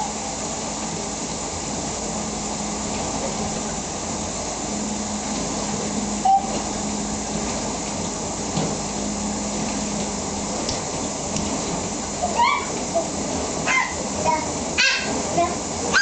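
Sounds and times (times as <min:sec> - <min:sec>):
dishwasher water spraying: 0:00.0 - 0:16.0
low motor hum: 0:00.0 - 0:16.0.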